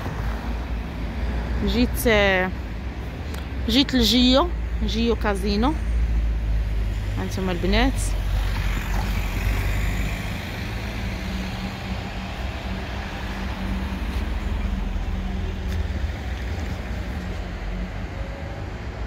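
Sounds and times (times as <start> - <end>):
low rumble of vehicle: 0.0 - 19.0.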